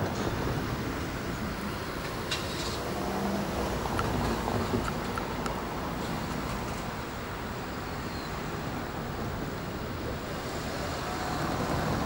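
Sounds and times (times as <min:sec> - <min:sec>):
distant rail noise: 0:00.0 - 0:12.0
distant traffic: 0:00.0 - 0:12.0
wind buffeting microphone: 0:00.0 - 0:12.0.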